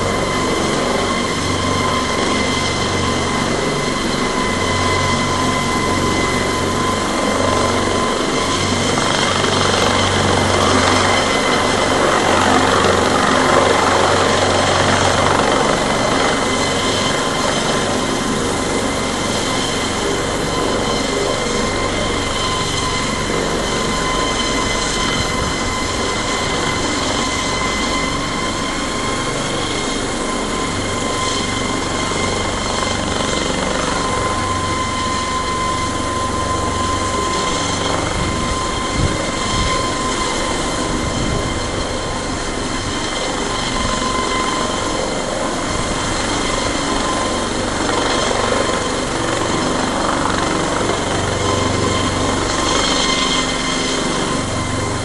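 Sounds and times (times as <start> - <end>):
helicopter rotor rumble: 0.0 - 55.0.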